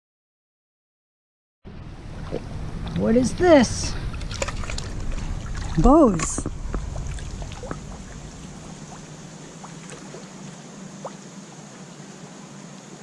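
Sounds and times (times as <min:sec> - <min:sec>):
flowing river water: 0:01.7 - 0:13.0.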